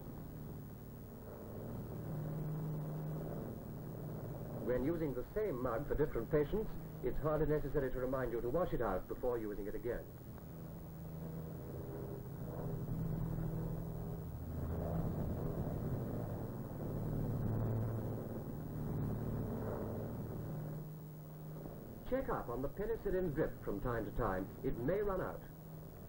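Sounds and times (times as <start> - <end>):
propeller plane engines droning: 0.0 - 26.0.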